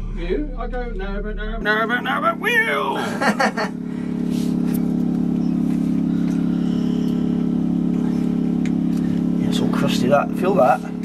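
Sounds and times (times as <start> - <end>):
engine humming with fast pulse: 0.0 - 11.0.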